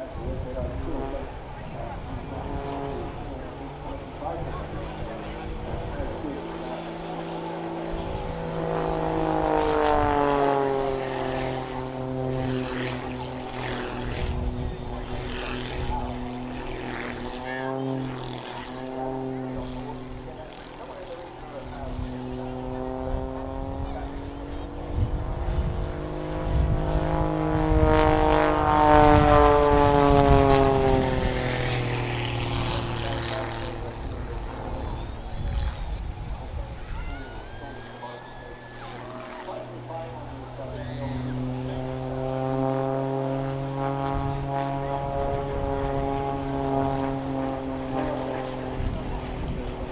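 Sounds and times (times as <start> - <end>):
propeller plane flying past: 0.0 - 49.9.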